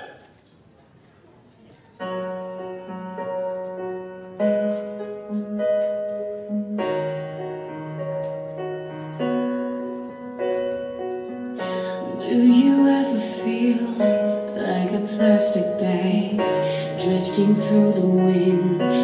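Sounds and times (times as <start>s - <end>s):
slow soft piano chords: 1.8s - 19.0s.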